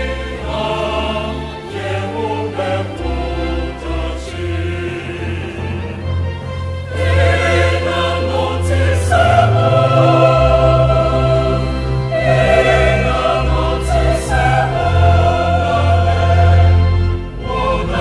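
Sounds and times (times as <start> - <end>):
mixed choir singing: 0.0 - 18.0.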